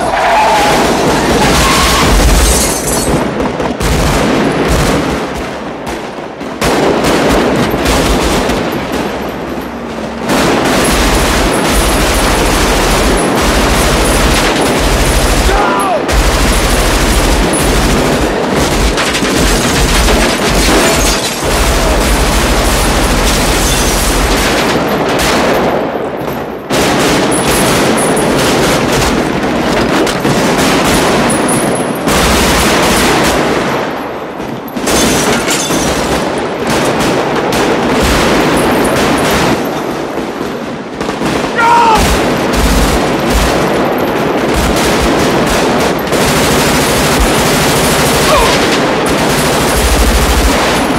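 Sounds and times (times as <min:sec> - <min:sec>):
automatic rifle fire: 0:00.0 - 0:09.4, 0:10.0 - 0:50.9.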